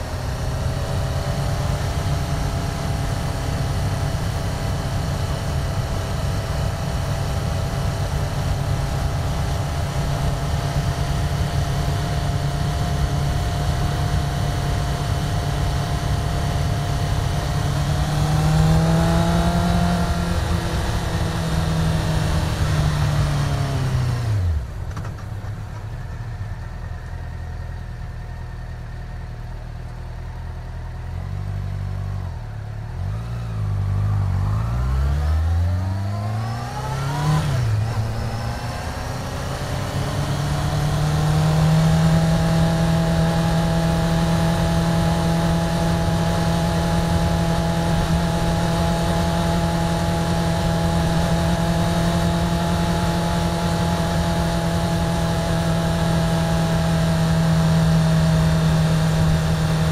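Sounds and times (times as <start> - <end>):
motorcycle engine revving: 0.0 - 25.2, 32.0 - 59.9.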